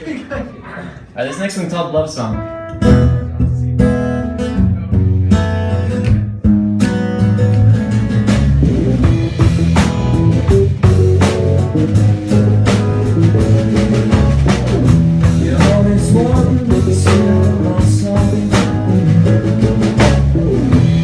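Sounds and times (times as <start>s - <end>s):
drums: 1.9s - 21.0s
live rock band playing: 2.2s - 21.0s
guitar chords: 2.3s - 21.0s
bass guitar: 2.4s - 21.0s.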